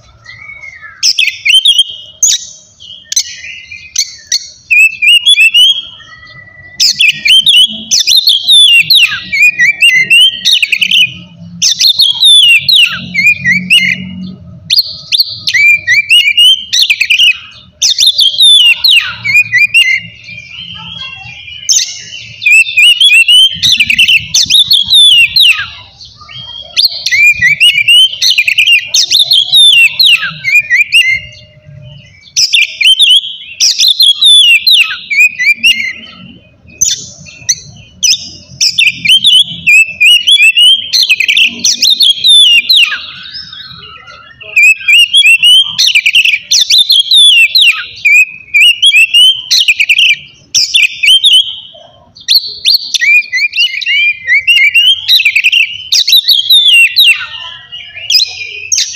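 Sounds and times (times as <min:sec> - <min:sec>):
songbird whistles and trills: 0:00.0 - 0:58.9.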